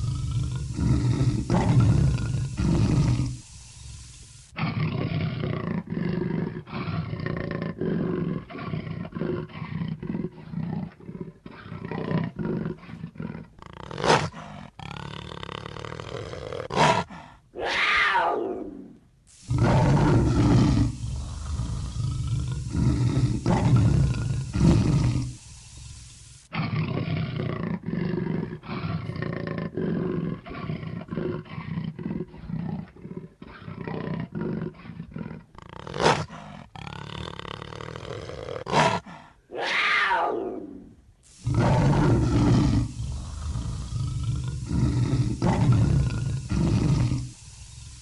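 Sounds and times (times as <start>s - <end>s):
big cat roaring: 0.0s - 3.7s, 4.6s - 25.8s, 26.5s - 48.0s
big cat growling: 0.0s - 3.8s, 4.5s - 48.0s.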